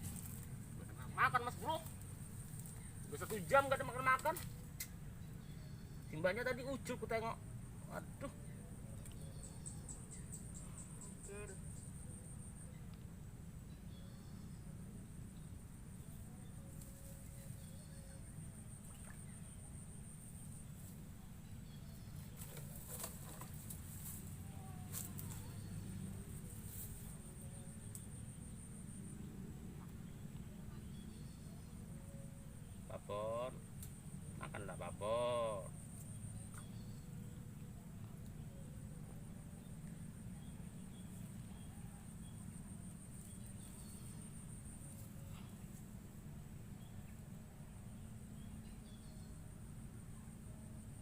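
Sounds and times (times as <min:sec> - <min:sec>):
high insect trill: 0:00.0 - 0:12.9, 0:13.7 - 0:51.0
constant low rumble: 0:00.0 - 0:51.0.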